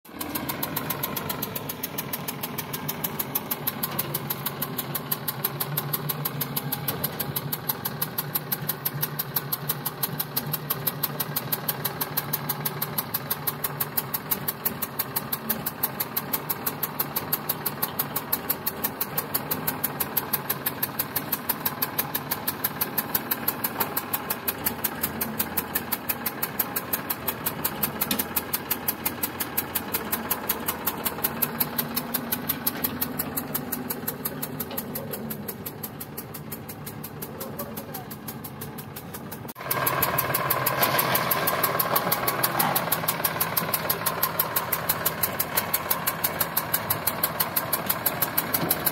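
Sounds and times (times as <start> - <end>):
tractor diesel engine idling: 0.0 - 48.9.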